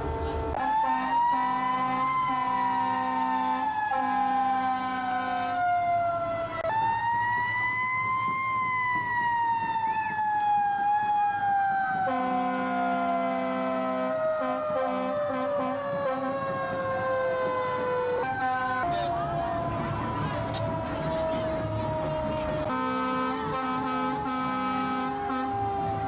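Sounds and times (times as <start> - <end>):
emergency siren wailing: 0.0 - 26.0.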